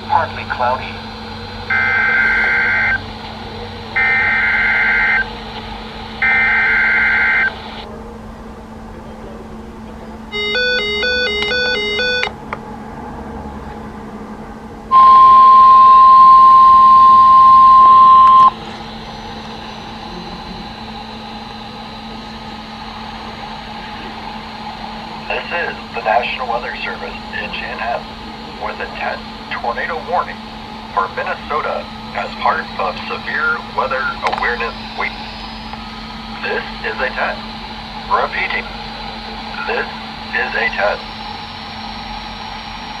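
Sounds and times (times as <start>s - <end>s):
raspy data bursts: 0.0s - 7.9s, 14.9s - 43.0s
radio hiss: 0.0s - 8.0s, 14.9s - 43.0s
loud steady warning tone: 0.0s - 43.0s
rapidly alternating electronic beeps: 0.1s - 7.9s, 10.3s - 12.3s, 14.9s - 43.0s.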